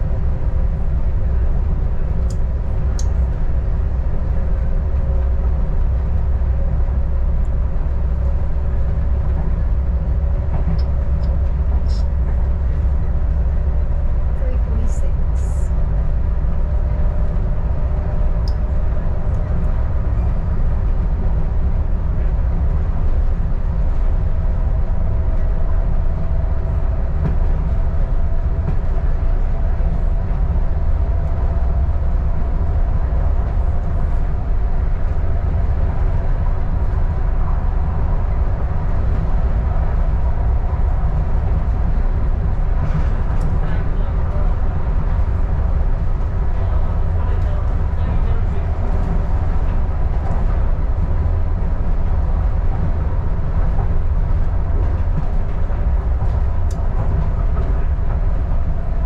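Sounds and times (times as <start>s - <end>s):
diesel railcar rumbling: 0.0s - 59.0s.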